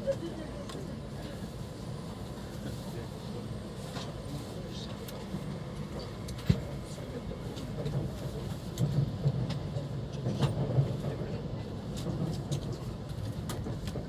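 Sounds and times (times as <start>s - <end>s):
train rumble inside passenger car: 0.0s - 14.0s.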